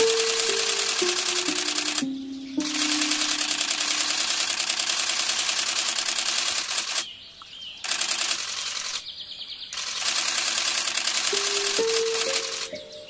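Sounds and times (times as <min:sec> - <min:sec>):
insects buzzing: 0:00.0 - 0:07.1, 0:07.8 - 0:09.0, 0:09.7 - 0:13.0.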